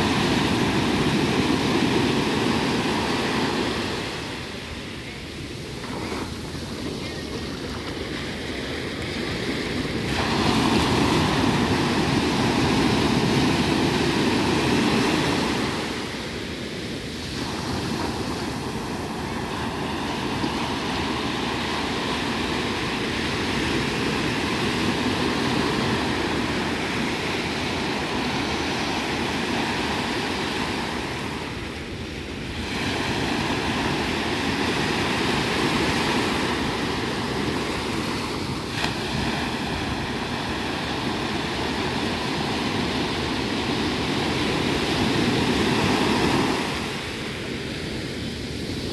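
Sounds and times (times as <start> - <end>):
sea waves breaking on beach: 0.0 - 48.9.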